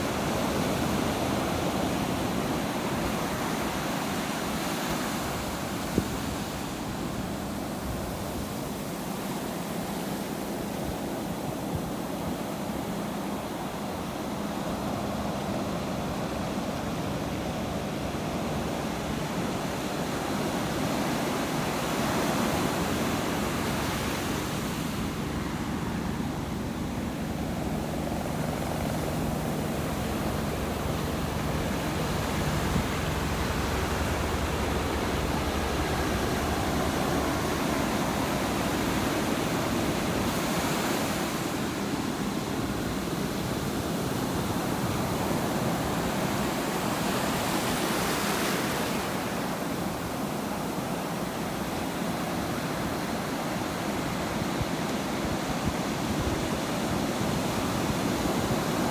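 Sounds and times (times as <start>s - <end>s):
ocean surf washing on shore: 0.0s - 58.9s.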